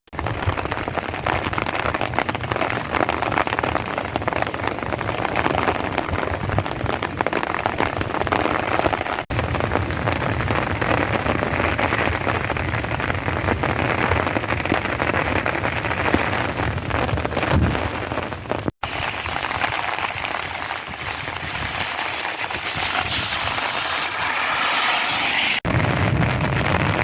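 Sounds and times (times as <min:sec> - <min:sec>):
heavy rain pouring: 0:00.2 - 0:27.0.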